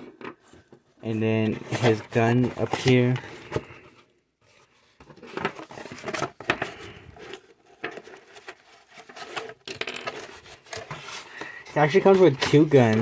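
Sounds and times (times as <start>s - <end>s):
cardboard rustling and scraping: 0.0s - 13.0s.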